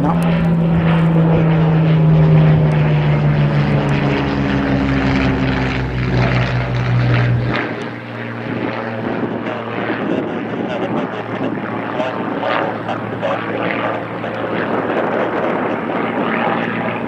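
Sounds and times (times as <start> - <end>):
propeller plane passing overhead: 0.0 - 17.0.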